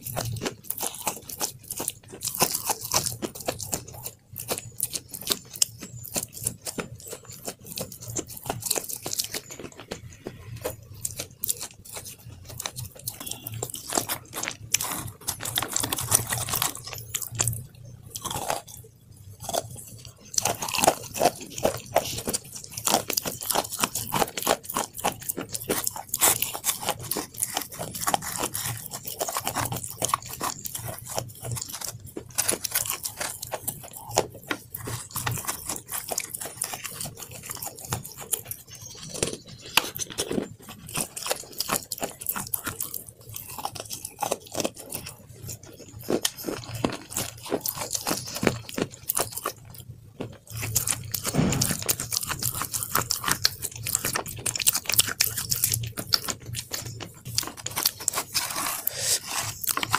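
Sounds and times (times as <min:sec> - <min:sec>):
chewing: 0:00.0 - 0:59.9
crunching crisp snack: 0:00.0 - 0:59.9.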